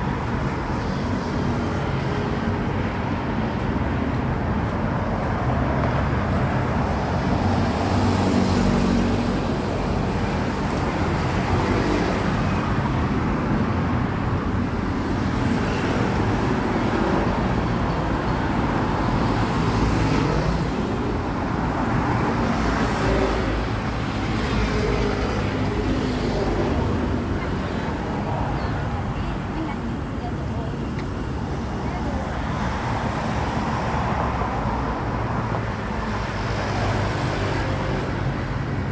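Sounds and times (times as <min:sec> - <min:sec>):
passing vehicles: 0:00.0 - 0:38.9.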